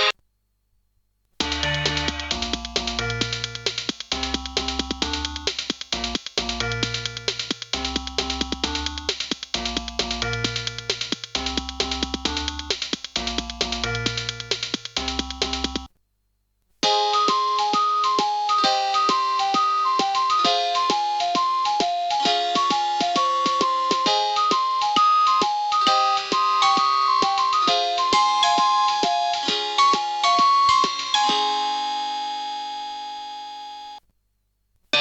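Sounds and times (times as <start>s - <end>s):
synthesized ringtone tune: 1.4s - 15.9s, 16.8s - 32.9s.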